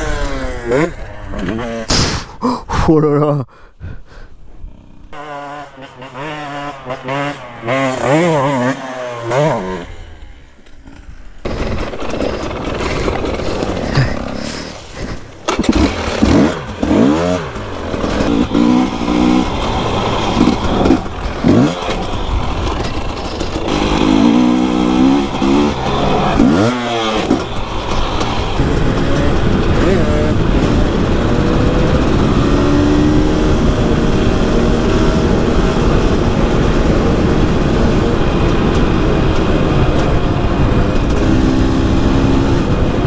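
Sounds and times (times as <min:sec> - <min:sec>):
two-stroke motorcycle engine revving: 0:00.0 - 0:02.2, 0:04.6 - 0:43.0.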